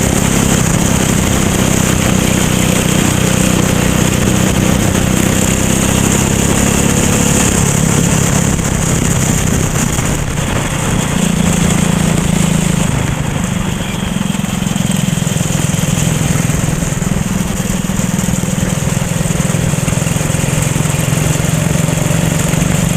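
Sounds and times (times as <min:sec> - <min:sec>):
kart engine running: 0:00.0 - 0:22.9.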